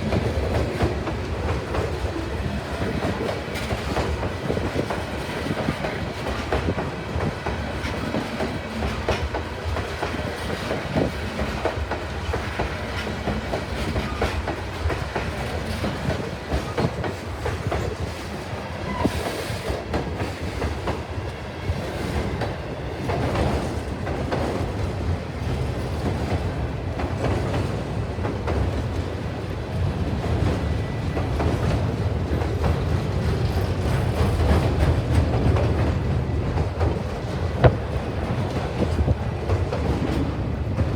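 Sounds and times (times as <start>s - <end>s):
low train rumble: 0.0s - 40.9s
train wheels clicking on rails: 0.0s - 40.9s.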